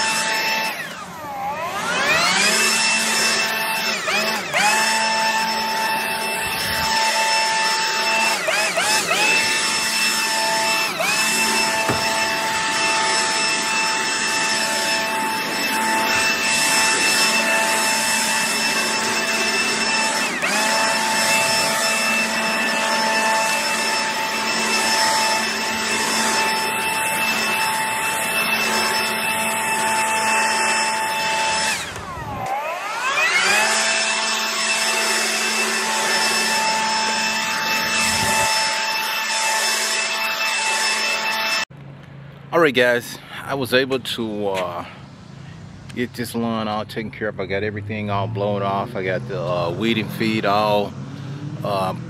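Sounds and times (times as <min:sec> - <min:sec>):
leaf blower whining: 0:00.0 - 0:41.8, 0:42.6 - 0:52.0.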